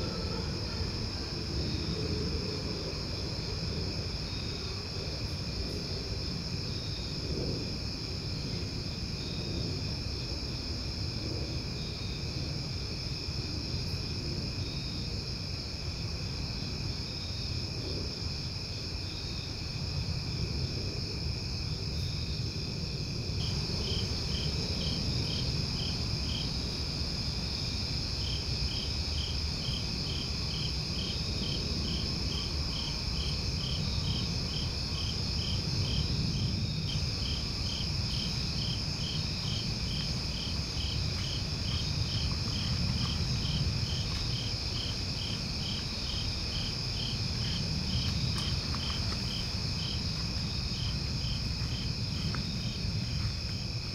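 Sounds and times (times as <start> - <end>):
cricket chirping: 0.0 - 53.9.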